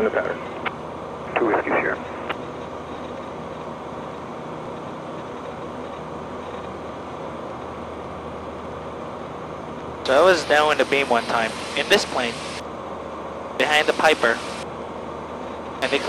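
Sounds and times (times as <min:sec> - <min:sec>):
aircraft engine and propeller drone: 0:00.0 - 0:16.0.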